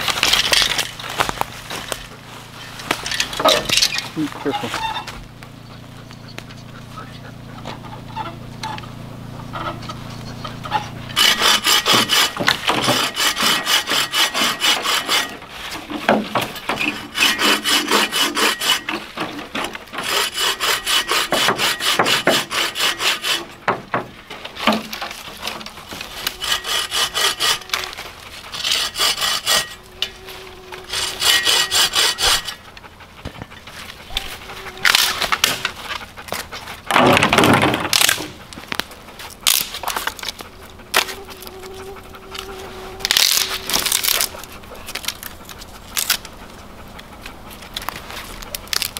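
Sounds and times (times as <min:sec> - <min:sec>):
hand saw cutting wood: 0:01.7 - 0:05.2, 0:10.6 - 0:48.9.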